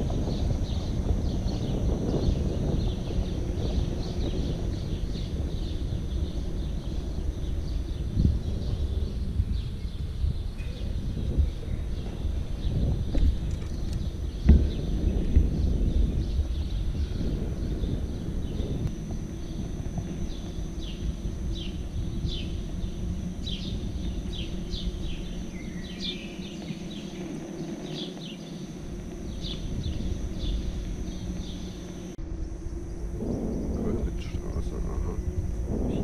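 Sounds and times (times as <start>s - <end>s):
electric unicycle humming: 0.0s - 36.0s
small birds chirping: 0.0s - 36.0s
wind rumble: 0.0s - 36.0s.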